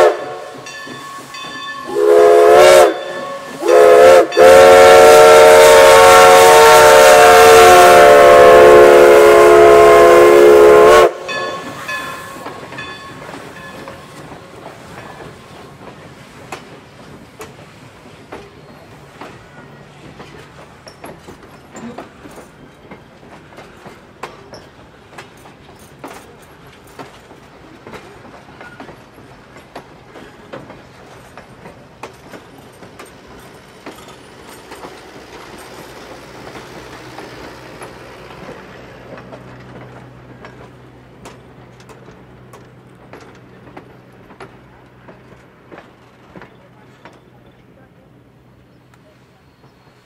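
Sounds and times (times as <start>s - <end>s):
train wheels clicking over rail joints: 0.0s - 50.0s.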